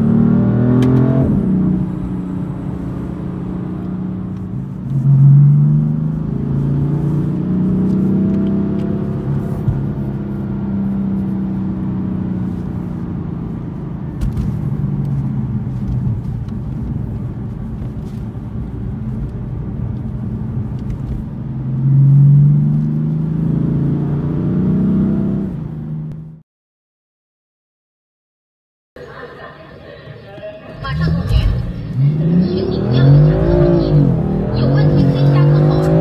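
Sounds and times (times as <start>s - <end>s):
car engine drone: 0.0s - 26.4s, 29.0s - 36.0s.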